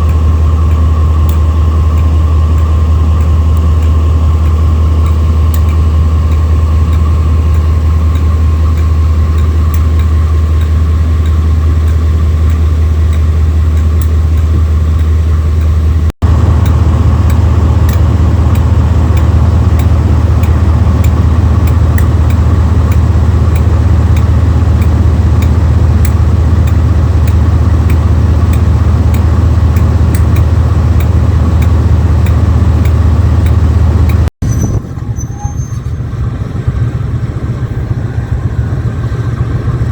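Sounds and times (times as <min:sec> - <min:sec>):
locomotive engine idling: 0:00.0 - 0:39.9.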